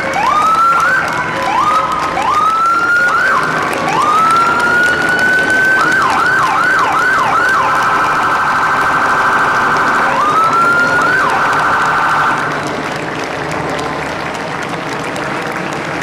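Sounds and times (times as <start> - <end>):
emergency vehicle siren: 0.0 - 16.0.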